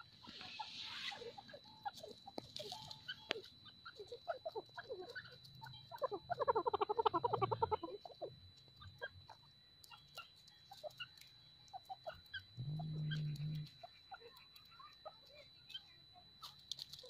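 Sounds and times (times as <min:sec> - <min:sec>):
birds pecking and scratching: 0:00.0 - 0:17.0
low steady hum: 0:00.0 - 0:17.0.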